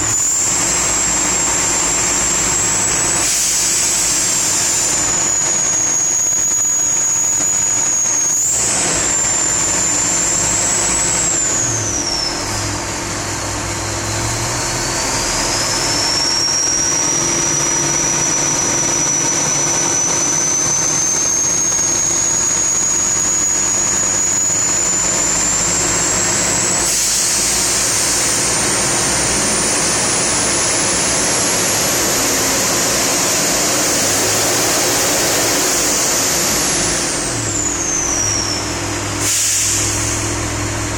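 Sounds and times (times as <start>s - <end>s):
turbocharger whistle: 0.0s - 12.9s, 14.0s - 40.5s
diesel engine running: 0.0s - 40.9s.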